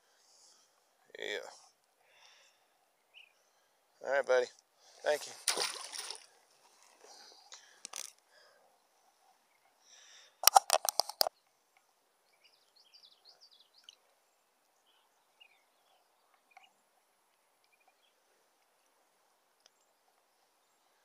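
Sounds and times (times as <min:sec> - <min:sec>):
faint birds chirping: 0:00.0 - 0:10.4, 0:11.2 - 0:21.0.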